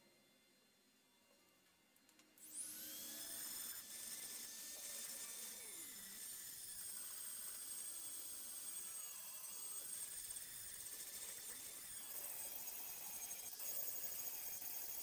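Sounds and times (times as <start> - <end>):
rotary tool grinding steel: 2.4 - 15.0.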